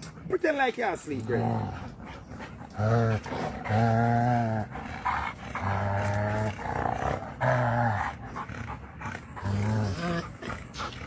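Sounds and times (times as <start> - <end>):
pig grunting: 1.2 - 11.0.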